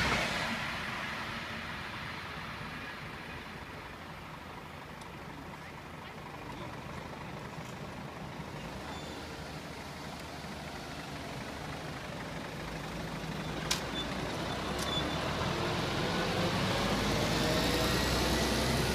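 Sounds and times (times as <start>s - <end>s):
car and truck engines: 0.0s - 18.9s.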